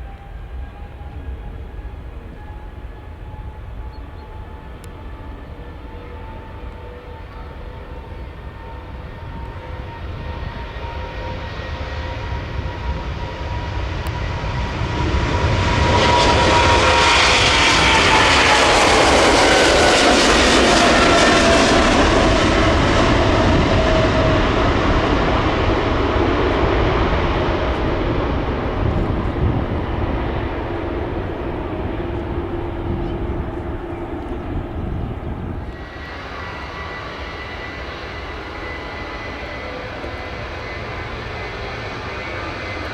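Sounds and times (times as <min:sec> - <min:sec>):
jet airliner passing by: 0:00.0 - 0:42.9.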